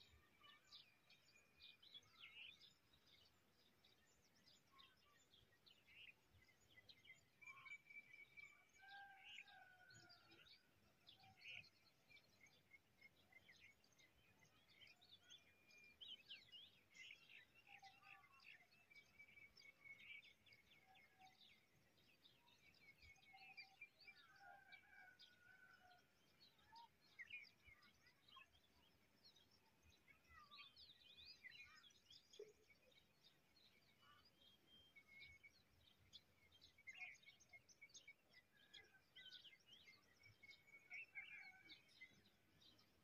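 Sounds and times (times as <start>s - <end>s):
faint birdsong: 0.0s - 43.0s.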